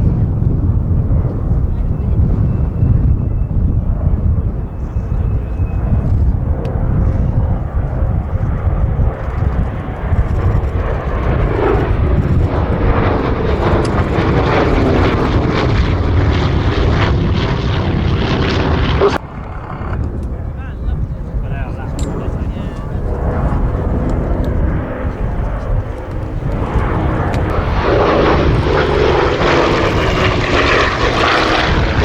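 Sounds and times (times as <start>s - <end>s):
propeller plane engines droning past: 0.0s - 32.0s.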